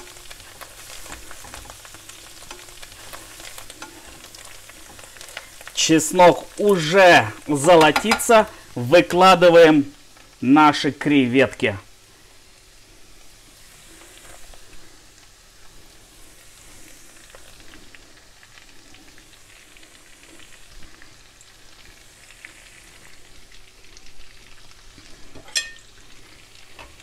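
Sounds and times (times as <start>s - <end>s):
food sizzling in frying pan: 0.0s - 27.0s.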